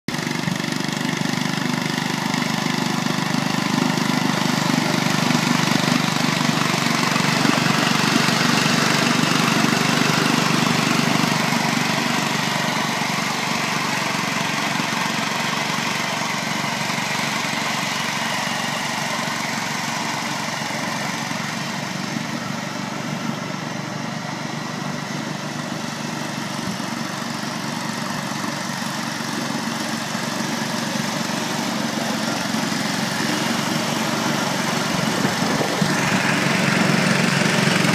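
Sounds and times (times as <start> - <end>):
ride-on lawn mower engine running: 0.1 - 37.9.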